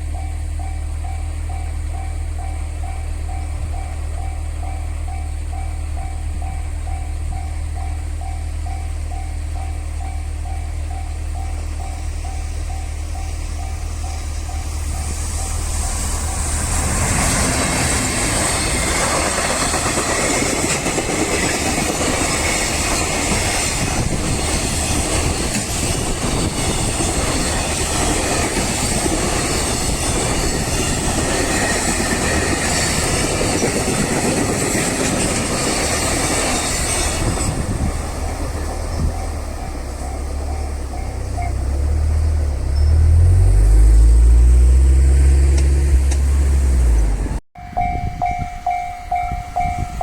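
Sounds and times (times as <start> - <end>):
freight train wheels rumbling on rails: 0.0 - 50.0.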